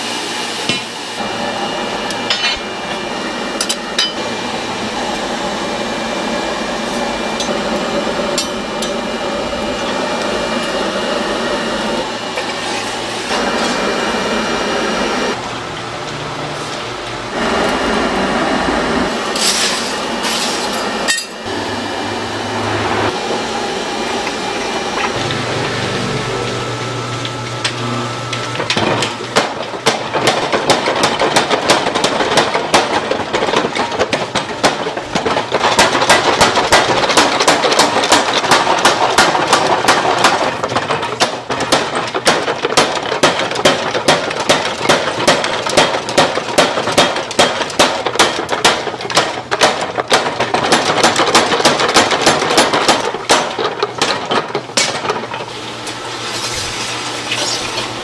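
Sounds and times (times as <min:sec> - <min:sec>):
steady workshop noise: 0:00.0 - 0:58.0.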